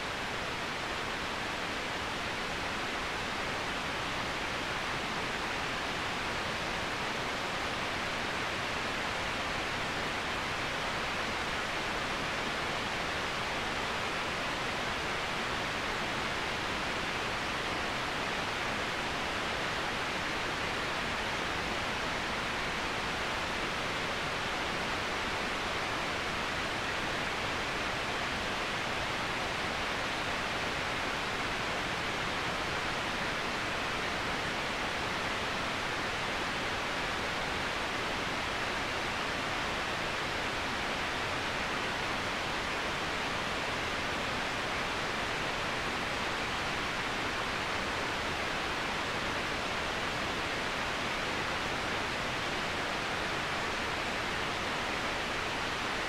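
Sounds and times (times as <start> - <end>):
waterfall rushing over rock: 0.0 - 56.0.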